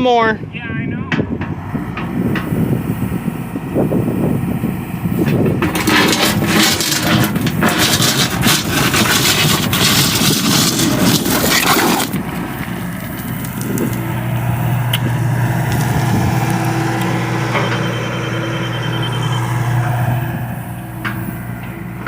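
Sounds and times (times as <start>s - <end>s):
excavator engine droning: 0.0s - 22.0s
excavator clattering and scraping: 1.1s - 22.0s.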